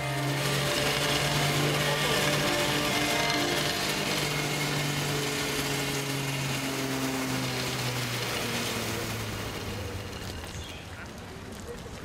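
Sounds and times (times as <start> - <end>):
cable car mechanical hum: 0.0 - 11.6.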